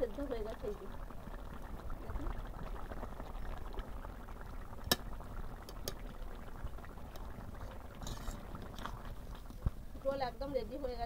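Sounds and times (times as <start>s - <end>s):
curry bubbling in a pan: 0.0s - 11.0s.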